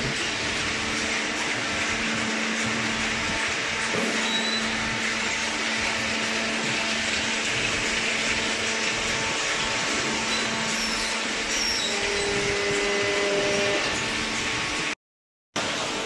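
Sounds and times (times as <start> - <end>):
hydraulic motor and pump running: 0.0 - 15.0, 15.6 - 16.0.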